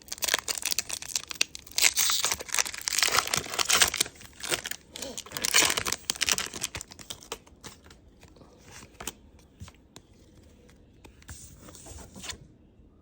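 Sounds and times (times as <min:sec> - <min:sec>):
wrapper and card rustling: 0:00.0 - 0:12.4.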